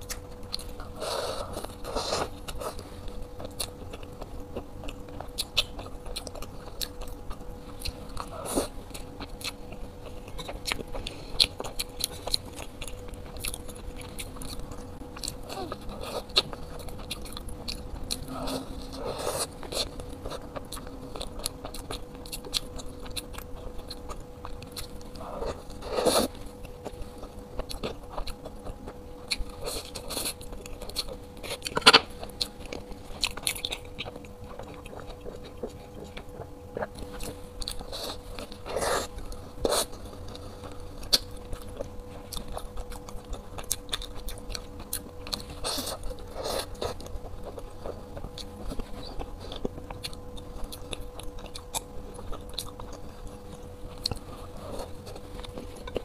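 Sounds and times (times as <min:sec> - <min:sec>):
chewing and biting bread: 0:00.0 - 0:56.0
faint steady hum: 0:00.0 - 0:56.0.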